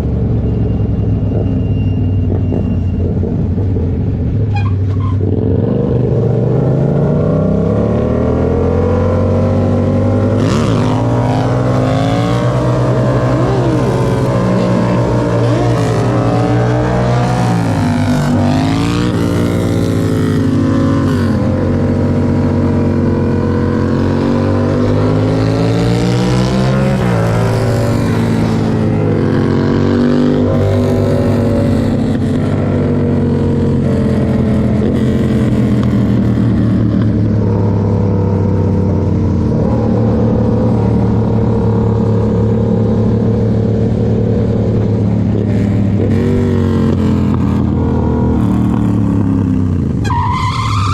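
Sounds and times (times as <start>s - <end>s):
motorcycle engine accelerating: 2.2s - 50.9s.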